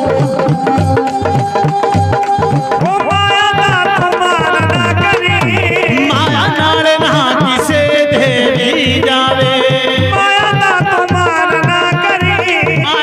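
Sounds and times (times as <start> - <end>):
hand drum beat: 0.0 - 13.0
ornamented lead melody: 0.0 - 13.0.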